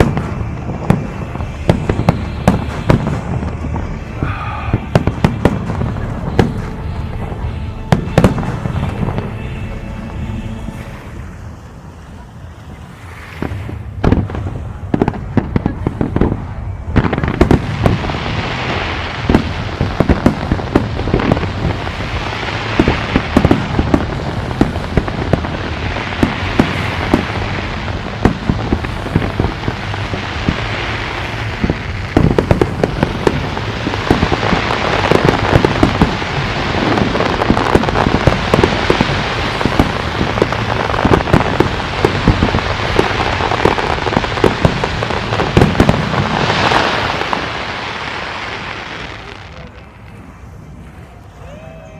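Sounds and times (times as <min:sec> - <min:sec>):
fireworks crackling: 0:00.0 - 0:51.9.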